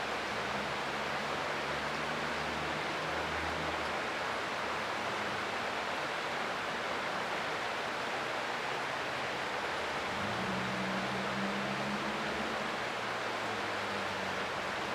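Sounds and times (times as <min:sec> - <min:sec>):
creek water rushing: 0:00.0 - 0:14.9.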